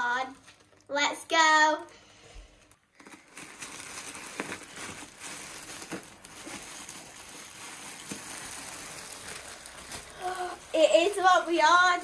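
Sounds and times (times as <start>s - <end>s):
crinkly parcel rustling: 0.0s - 12.0s.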